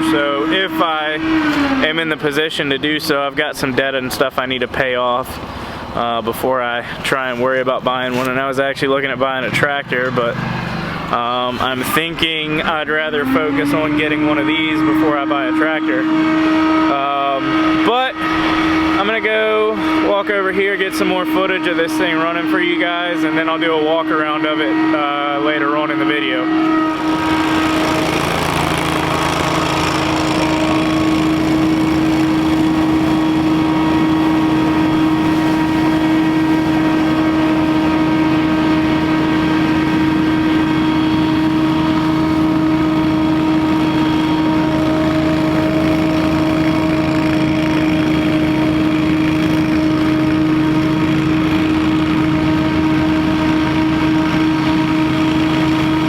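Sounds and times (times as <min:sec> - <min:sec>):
debris blower engine humming: 0:00.0 - 0:56.0.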